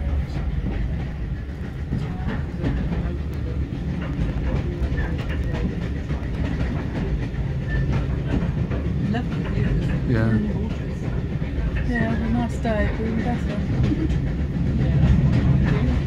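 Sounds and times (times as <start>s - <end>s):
railway carriage rumble: 0.0s - 16.0s
wheels clattering on track: 0.0s - 16.0s.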